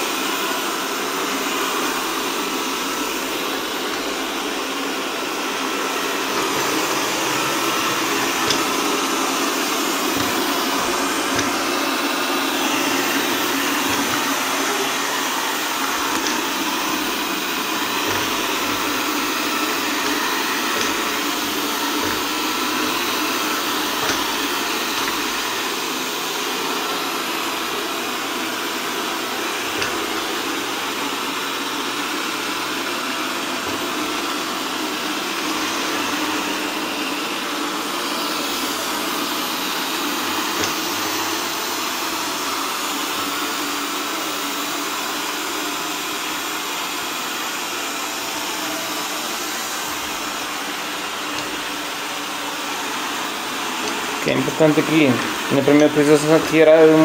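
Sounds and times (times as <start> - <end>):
robot vacuum running: 0.0 - 57.0.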